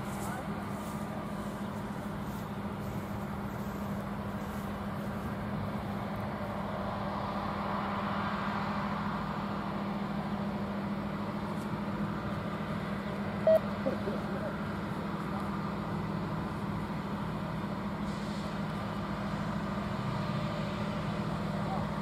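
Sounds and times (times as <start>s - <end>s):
diesel machine rumbling: 0.0s - 22.0s.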